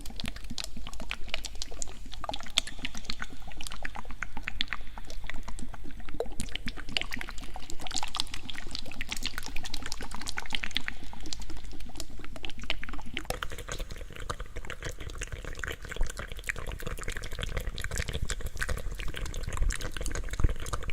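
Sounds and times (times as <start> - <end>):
wet mouth licking sounds: 0.1 - 20.9.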